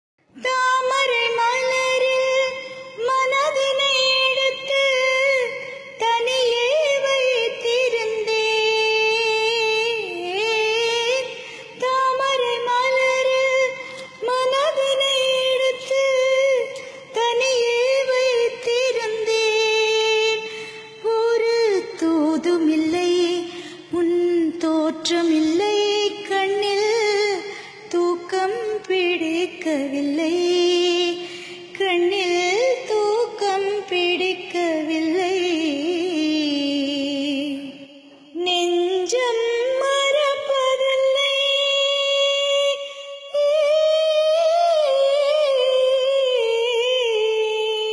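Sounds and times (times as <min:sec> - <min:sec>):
woman singing: 0:00.2 - 0:47.9.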